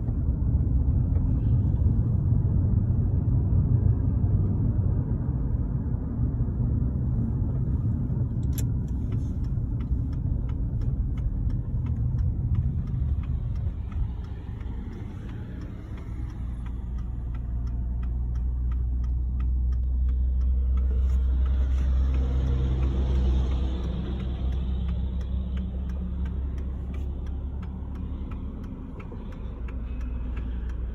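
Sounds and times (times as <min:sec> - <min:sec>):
car engine: 0:00.0 - 0:30.9
road rumble: 0:00.0 - 0:30.9.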